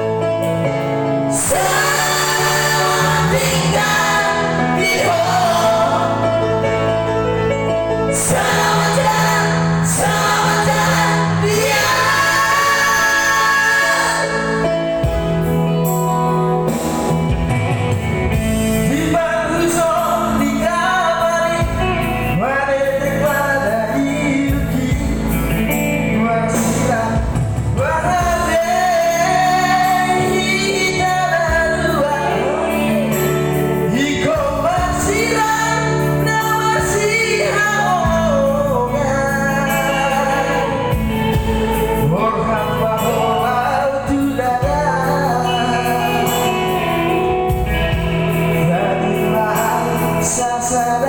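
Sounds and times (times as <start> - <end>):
instrumental accompaniment: 0.0 - 51.0
person singing: 1.3 - 17.2, 18.4 - 51.0.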